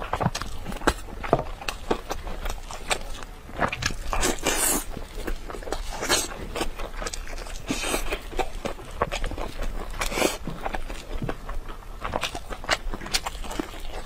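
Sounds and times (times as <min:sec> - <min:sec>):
person biting and chewing meat: 0:00.0 - 0:14.0.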